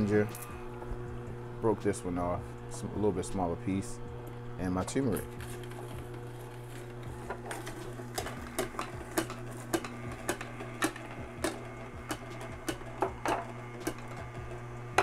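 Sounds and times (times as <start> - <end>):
juicer motor hum: 0.0 - 15.0.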